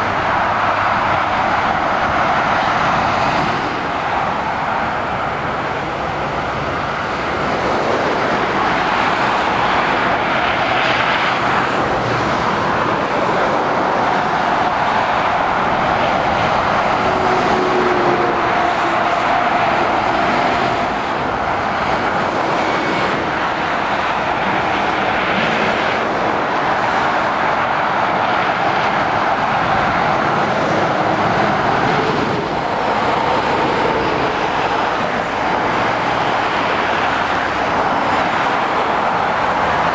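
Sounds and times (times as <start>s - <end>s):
motorway traffic rushing: 0.0s - 39.9s.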